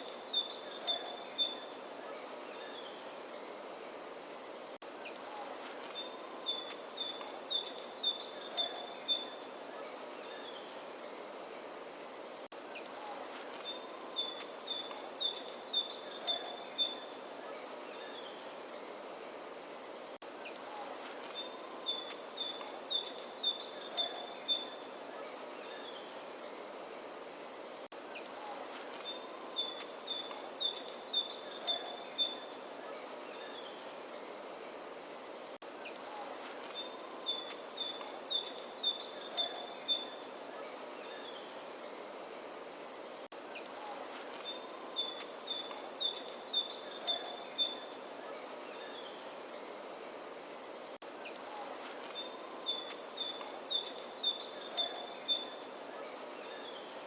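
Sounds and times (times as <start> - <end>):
outdoor background hiss: 0.0 - 57.0
songbird singing: 0.0 - 57.0.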